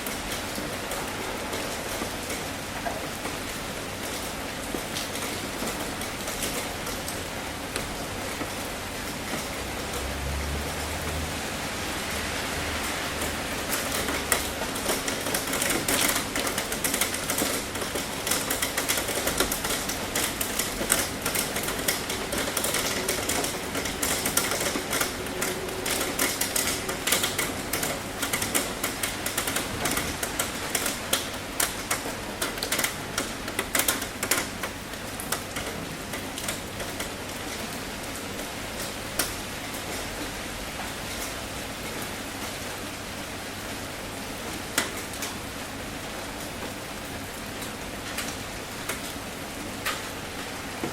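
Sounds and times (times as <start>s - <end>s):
heavy rain on a tin roof: 0.0s - 50.9s.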